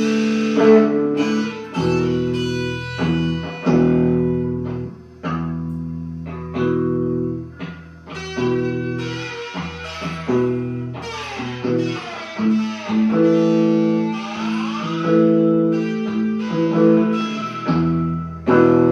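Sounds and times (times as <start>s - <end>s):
blues guitar playing: 0.0s - 18.9s.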